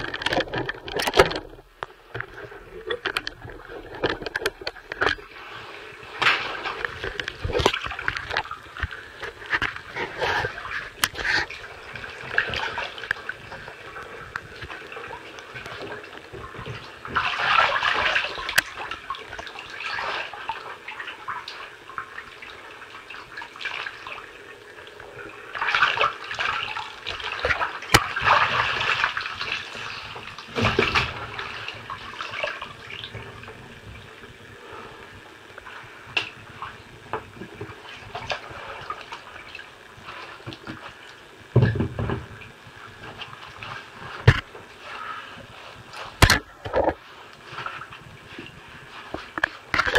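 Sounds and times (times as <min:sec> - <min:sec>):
bathwater sloshing and splashing: 0:00.0 - 0:49.9.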